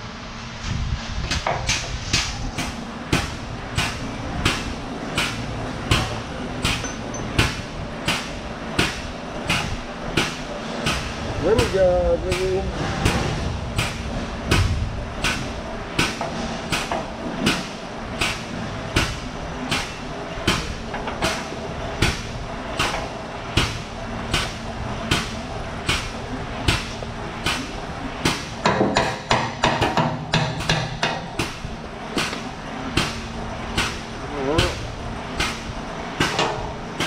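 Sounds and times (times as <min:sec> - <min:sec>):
low background hum: 0:00.0 - 0:37.0.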